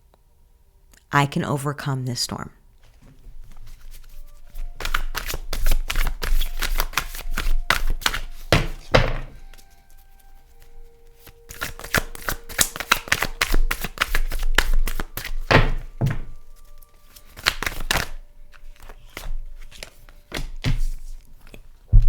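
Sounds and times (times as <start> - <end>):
cards being shuffled: 2.8 - 21.9.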